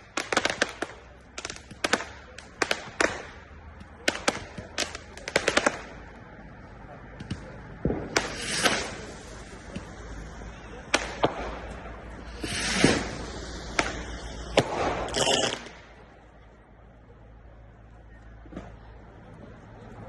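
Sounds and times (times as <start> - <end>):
fireworks banging: 0.0 - 16.6
fireworks crackling and hissing: 0.0 - 20.0.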